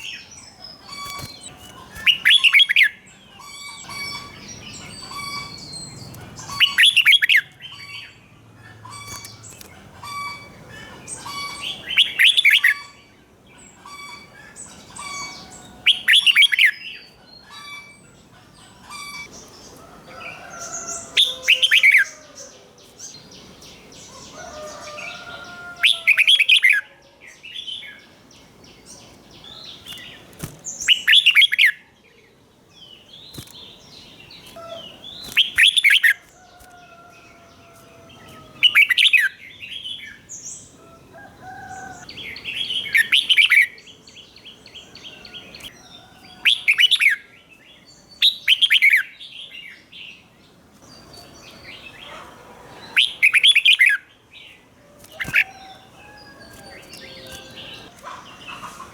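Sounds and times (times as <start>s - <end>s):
bird singing: 0.0s - 58.9s
soft bird chirps and warbling: 0.0s - 58.9s.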